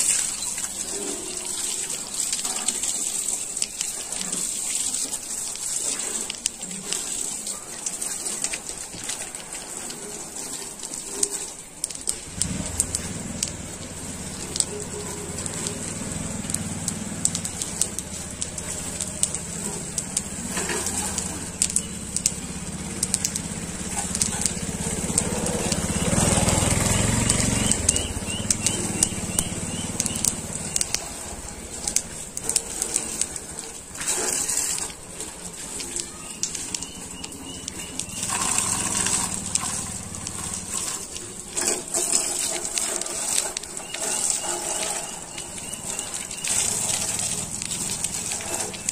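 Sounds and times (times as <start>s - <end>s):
hose water spraying on metal: 0.0s - 48.9s.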